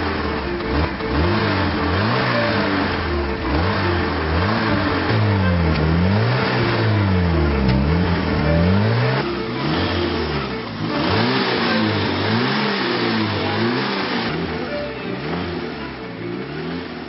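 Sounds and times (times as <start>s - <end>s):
car engine revving in blips: 0.0s - 17.0s.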